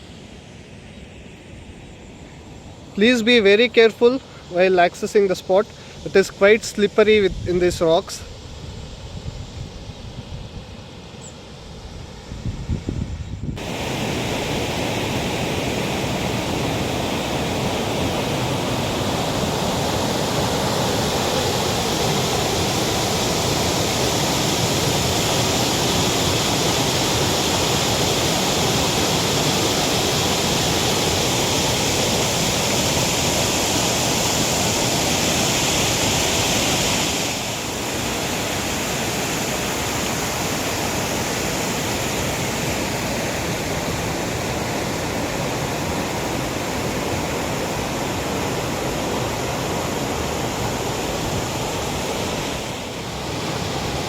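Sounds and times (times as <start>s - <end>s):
waterfall rushing over rocks: 3.0s - 8.3s, 13.6s - 54.0s.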